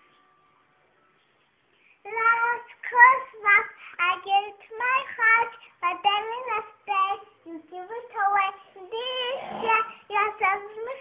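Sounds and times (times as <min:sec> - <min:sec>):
child singing: 0:02.1 - 0:11.0.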